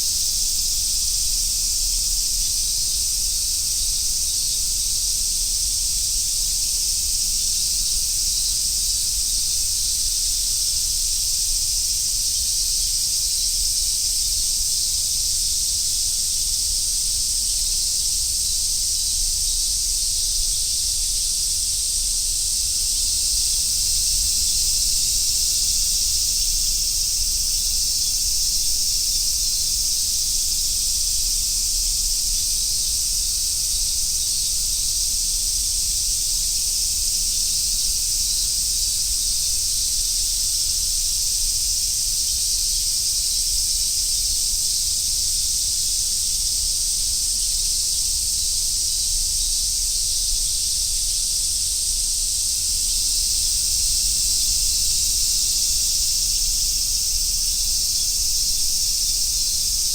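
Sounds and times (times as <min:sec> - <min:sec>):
cicadas chorus: 0:00.0 - 0:59.9.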